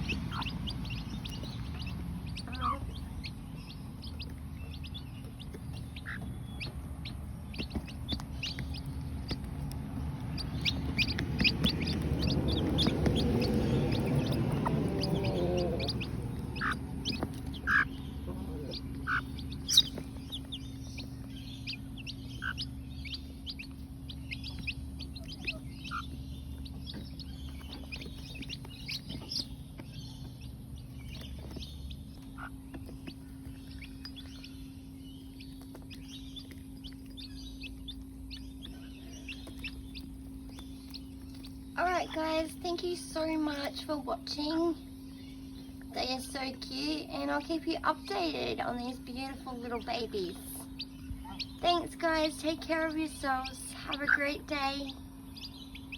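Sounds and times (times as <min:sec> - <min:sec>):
chicks peeping: 0:00.0 - 0:55.9
hen clucking: 0:00.0 - 0:55.9.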